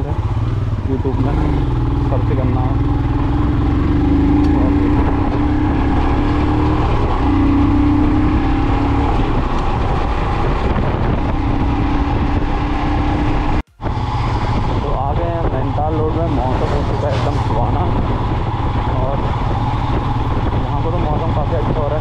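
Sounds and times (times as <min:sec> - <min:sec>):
motorcycle engine running: 0:00.0 - 0:22.0
wind rush on microphone: 0:02.6 - 0:22.0.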